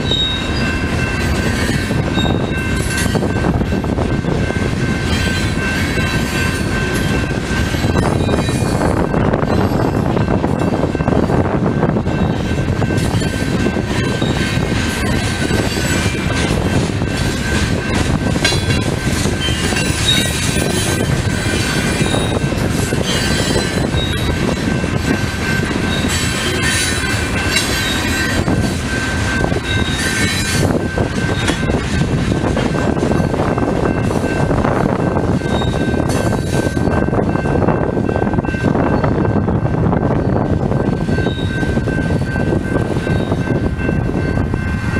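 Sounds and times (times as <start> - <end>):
freight train wheels rumbling on rail: 0.0 - 44.9.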